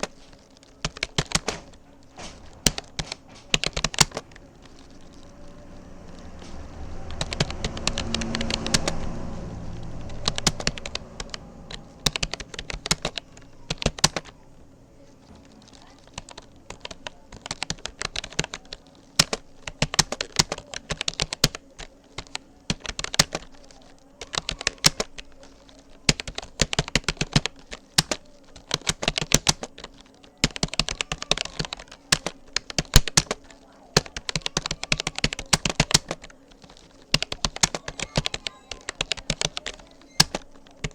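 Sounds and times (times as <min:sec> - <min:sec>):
computer keyboard typing: 0:00.0 - 0:40.9.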